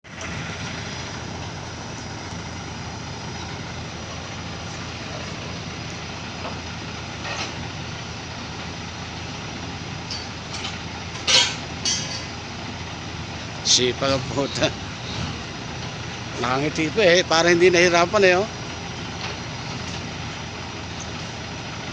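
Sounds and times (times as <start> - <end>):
steady low motor noise: 0.0 - 21.9.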